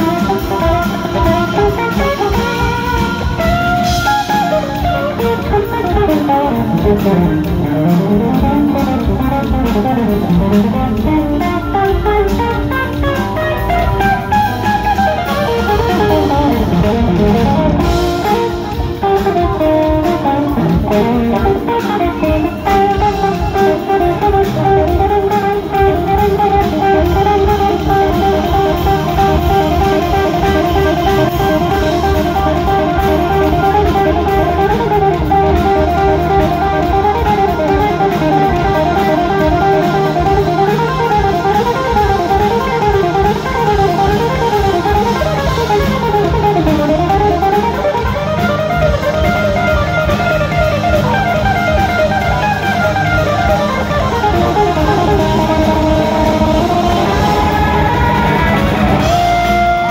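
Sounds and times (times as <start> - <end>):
bass and drums: 0.0 - 59.9
electric guitar solo: 0.0 - 59.9.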